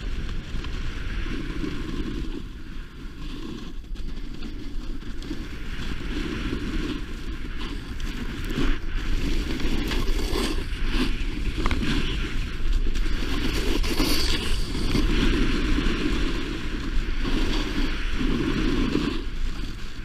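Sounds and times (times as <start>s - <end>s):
snowboard scraping over snow: 0.0s - 20.0s
wind rushing over microphone: 0.0s - 20.0s.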